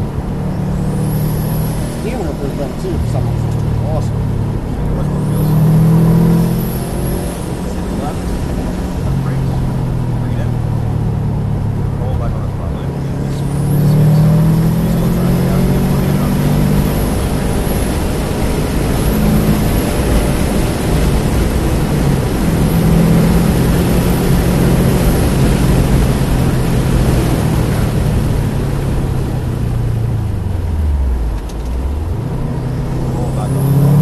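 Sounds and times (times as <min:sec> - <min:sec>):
car engine pulling hard: 0:00.0 - 0:34.0
wind and road noise: 0:00.0 - 0:34.0.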